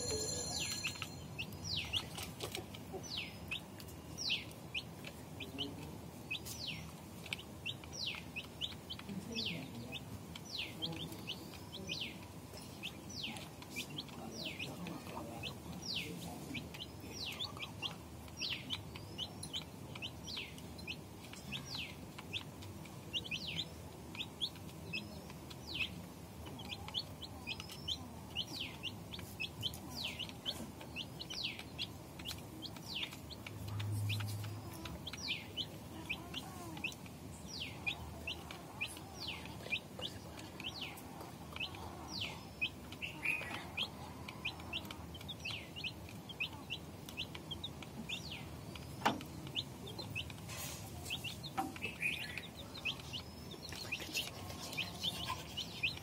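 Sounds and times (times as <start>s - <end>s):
hen clucking: 0.0s - 56.0s
small birds chirping: 0.0s - 56.0s.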